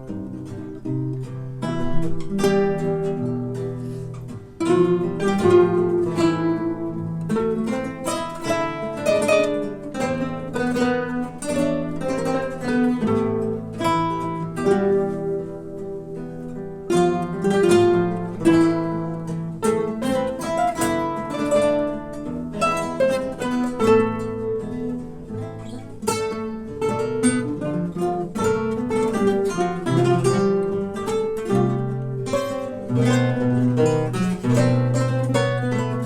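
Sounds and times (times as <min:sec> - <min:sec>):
plucked acoustic guitar melody: 0:00.0 - 0:36.0.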